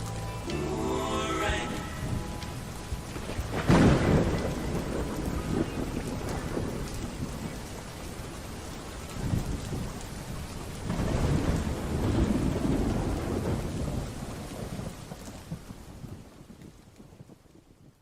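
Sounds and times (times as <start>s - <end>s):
steady rain: 0.0s - 18.0s
rolling thunder: 1.4s - 17.3s.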